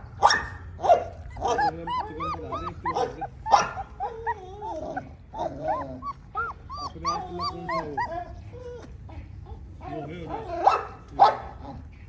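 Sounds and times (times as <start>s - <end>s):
puppies whining and yelping: 0.2s - 10.7s.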